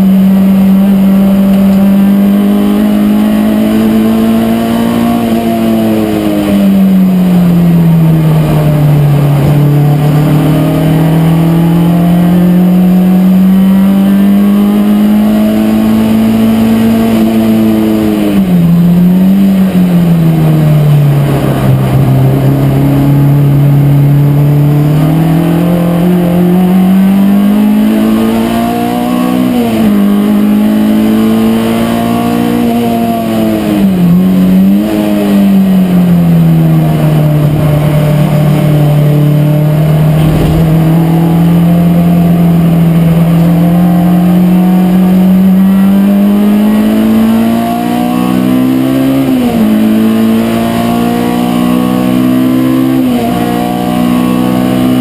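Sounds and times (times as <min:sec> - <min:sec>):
race car engine under load: 0:00.0 - 0:55.0.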